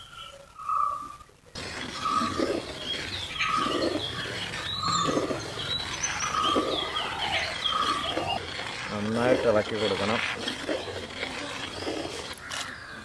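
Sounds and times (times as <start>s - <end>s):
bird calling: 0.0s - 13.0s
ladle stirring liquid in pot: 1.6s - 12.4s.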